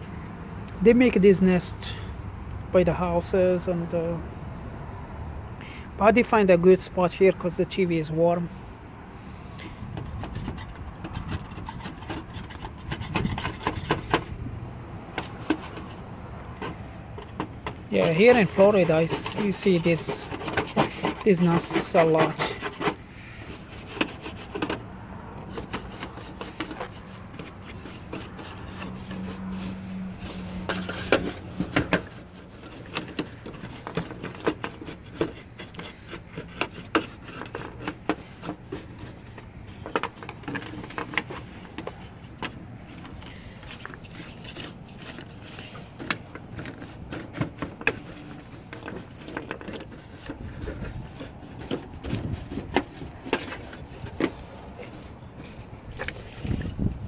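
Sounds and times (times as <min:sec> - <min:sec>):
bristle brush scrubbing metal: 0:09.3 - 0:57.0.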